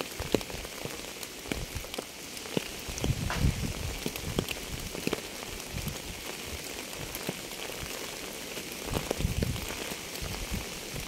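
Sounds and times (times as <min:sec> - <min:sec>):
raindrops striking a surface: 0:00.0 - 0:11.0
steady rain hiss: 0:00.0 - 0:11.0.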